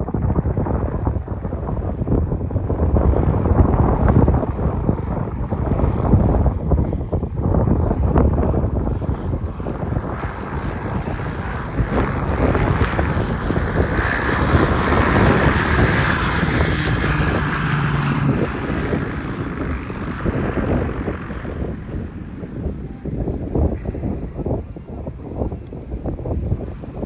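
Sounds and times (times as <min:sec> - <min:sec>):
storm wind buffeting microphone: 0:00.0 - 0:27.0.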